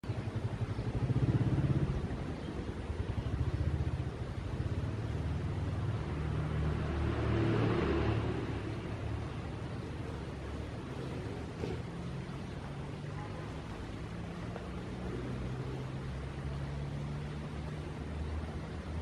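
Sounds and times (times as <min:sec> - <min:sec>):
engine pulsing rumble: 0:00.0 - 0:19.0.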